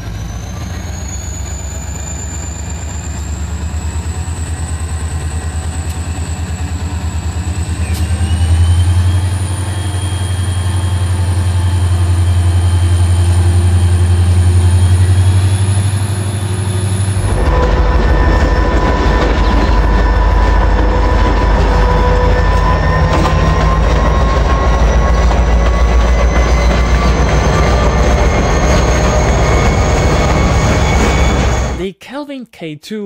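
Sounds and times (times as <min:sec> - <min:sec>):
diesel locomotive engine running hard: 0:00.0 - 0:31.8
train wheels on rails: 0:00.0 - 0:31.8.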